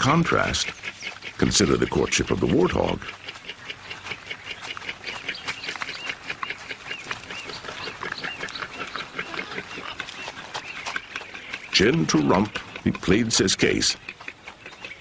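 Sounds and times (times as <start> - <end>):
rapid high animal calls: 0.0 - 15.0.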